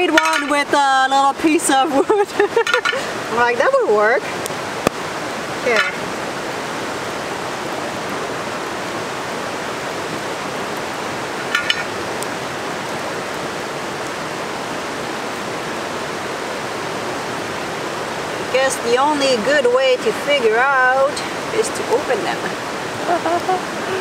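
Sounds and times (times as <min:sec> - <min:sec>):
river flowing over stones: 0:00.0 - 0:24.0.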